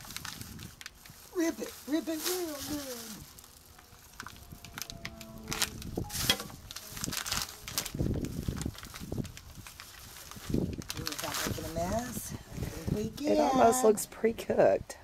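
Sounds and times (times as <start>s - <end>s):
plastic wrapping crinkling: 0.0s - 12.7s.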